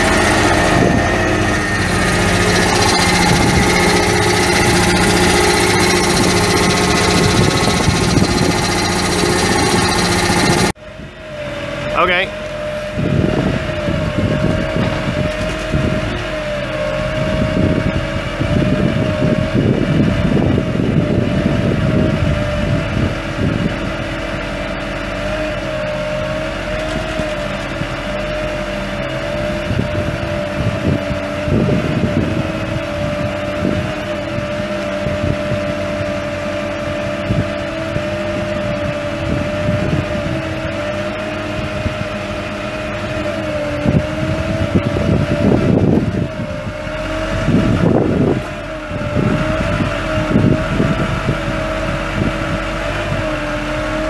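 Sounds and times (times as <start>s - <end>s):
wind gusts on microphone: 0.0s - 25.6s, 26.2s - 54.0s
diesel truck engine whining: 0.0s - 54.0s.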